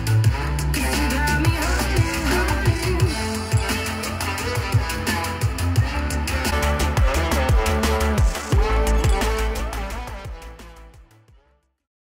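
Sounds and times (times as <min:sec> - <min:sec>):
song with bass and drums: 0:00.0 - 0:11.4.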